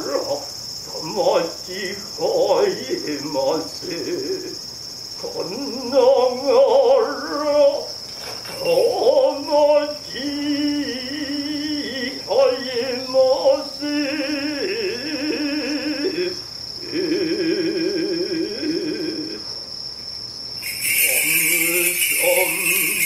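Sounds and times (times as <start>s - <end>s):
person chanting with vibrato: 0.0s - 4.6s, 5.2s - 8.0s, 8.6s - 19.4s, 20.6s - 23.0s
crickets chirring: 0.0s - 23.0s.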